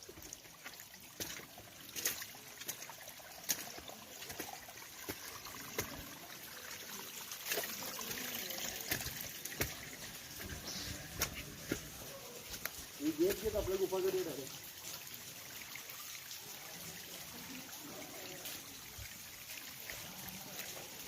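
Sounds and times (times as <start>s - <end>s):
sharp clicks and drips: 0.0s - 21.0s
water trickling: 0.0s - 21.0s.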